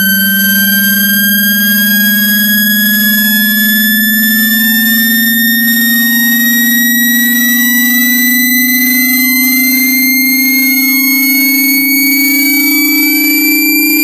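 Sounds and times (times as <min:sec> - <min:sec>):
high whistling tones: 0:00.0 - 0:14.0
loud low test tone: 0:00.0 - 0:14.0.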